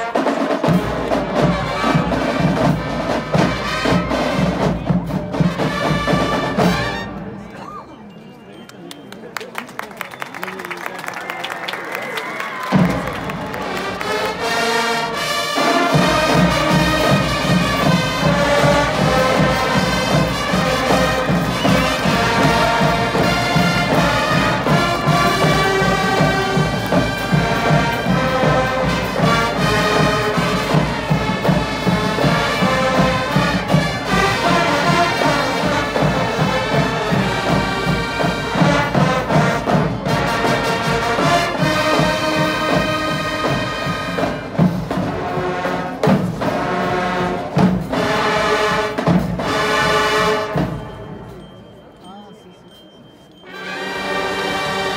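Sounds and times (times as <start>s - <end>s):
marching band with brass: 0.0s - 9.0s, 9.6s - 54.9s.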